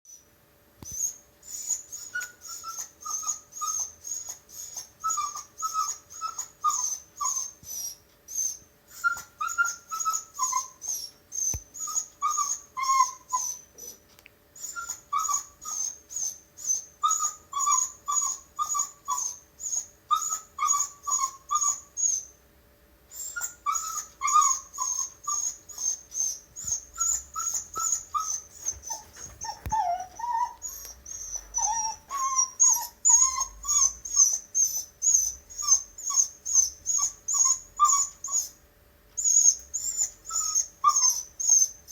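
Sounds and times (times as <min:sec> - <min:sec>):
dog whimpering and whining: 0:00.8 - 0:22.3, 0:23.1 - 0:38.6, 0:39.2 - 0:41.9.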